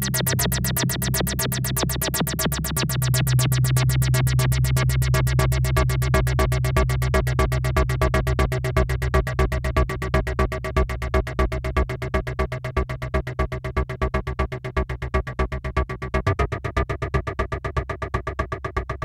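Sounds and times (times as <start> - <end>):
low bass tone: 0.0 - 19.0
synthesizer sequenced line: 0.0 - 19.0.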